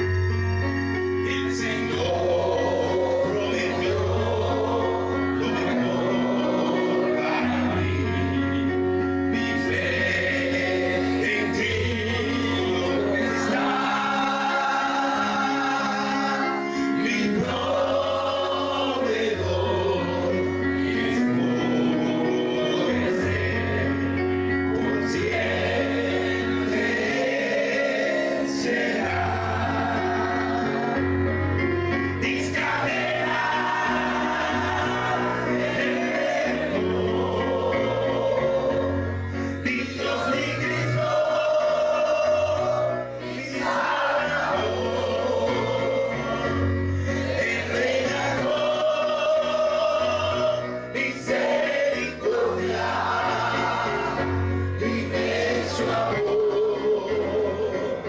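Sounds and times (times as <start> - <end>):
men singing in chorus: 1.3 - 24.2, 24.8 - 31.1, 32.1 - 58.0.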